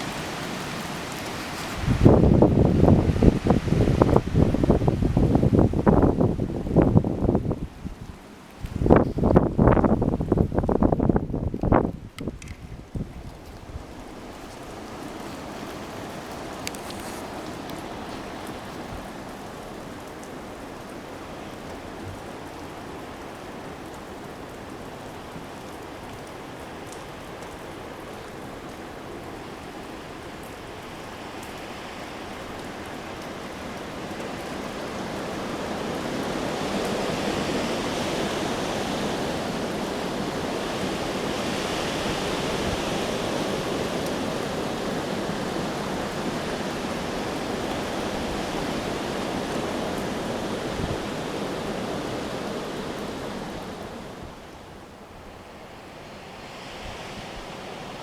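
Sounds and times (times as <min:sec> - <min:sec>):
wind and rain rushing: 0:00.0 - 0:58.0.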